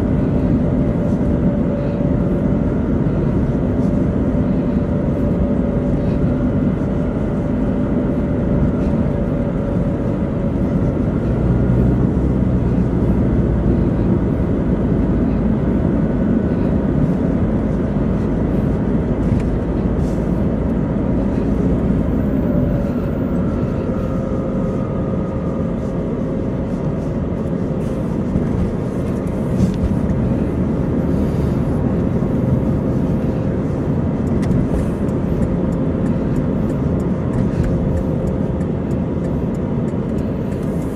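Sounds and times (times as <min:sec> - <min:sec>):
car engine and tyre noise: 0:00.0 - 0:40.9
faint whine: 0:00.0 - 0:40.9.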